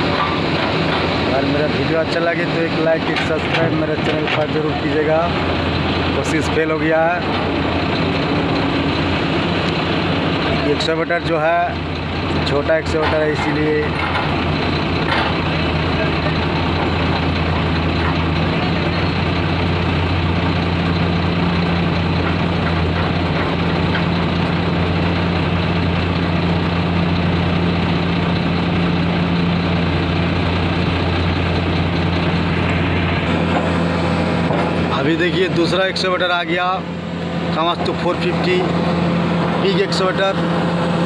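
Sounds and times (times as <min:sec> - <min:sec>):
heavy diesel engines humming: 0:00.0 - 0:41.0.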